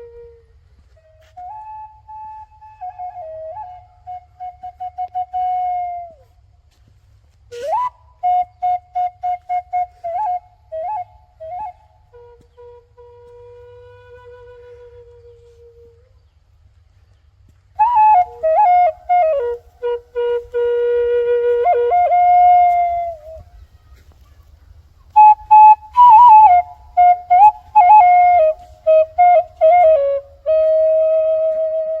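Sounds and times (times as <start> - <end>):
solo flute melody: 0.0 - 16.4, 17.7 - 32.0.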